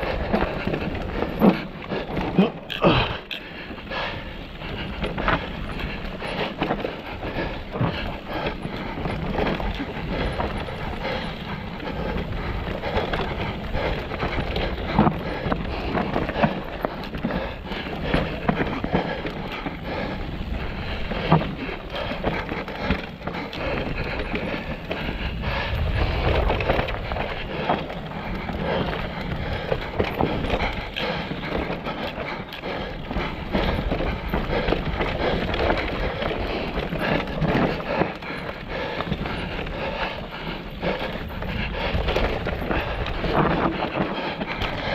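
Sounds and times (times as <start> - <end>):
bike rattling: 0.0 - 44.9
bike tyres rolling on rock: 0.0 - 44.9.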